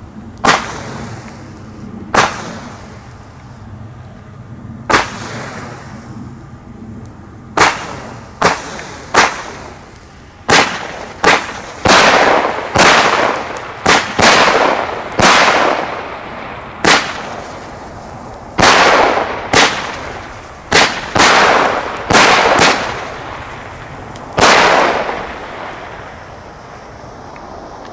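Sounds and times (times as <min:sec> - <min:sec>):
firework bangs with hissing tails: 0:00.4 - 0:03.6, 0:04.8 - 0:06.4, 0:07.5 - 0:27.9.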